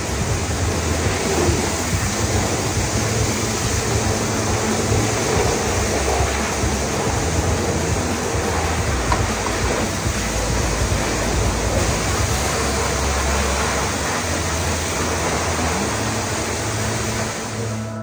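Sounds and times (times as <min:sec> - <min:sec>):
high-pressure water spray hissing: 0:00.0 - 0:18.0
low hum: 0:00.0 - 0:18.0.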